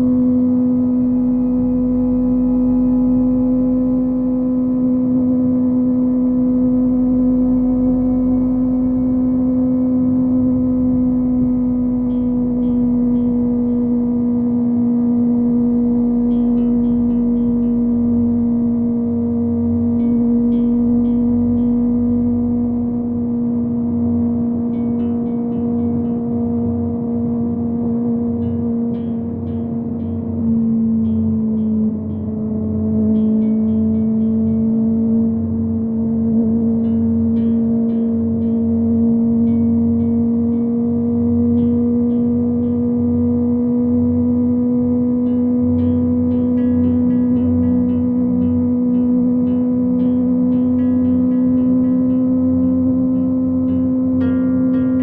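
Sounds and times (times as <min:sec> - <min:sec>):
motorcycle engine at high rpm: 0:00.0 - 0:55.0
wind and road noise: 0:00.0 - 0:55.0.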